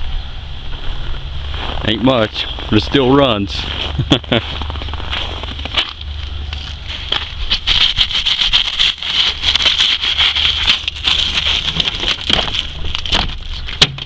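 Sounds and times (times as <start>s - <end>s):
wind rumbling on microphone: 0.0s - 14.0s
footsteps crunching on snow: 0.7s - 13.8s.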